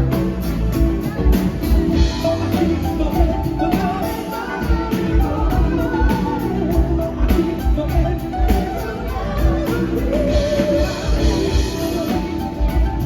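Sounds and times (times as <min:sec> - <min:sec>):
drums: 0:00.0 - 0:13.0
live rock band playing: 0:00.0 - 0:13.0
person singing: 0:00.0 - 0:13.0.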